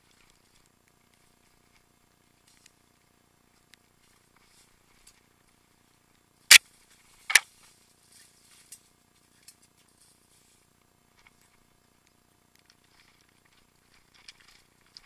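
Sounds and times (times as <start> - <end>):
faint ticks: 0.0 - 6.3, 8.6 - 15.0.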